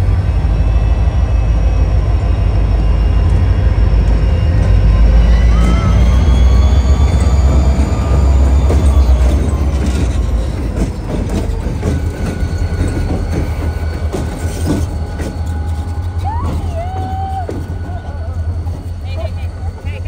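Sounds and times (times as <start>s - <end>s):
freight train rumbling: 0.0s - 20.0s
high-pitched squeal: 0.0s - 20.0s
train cars clanking: 0.0s - 20.0s.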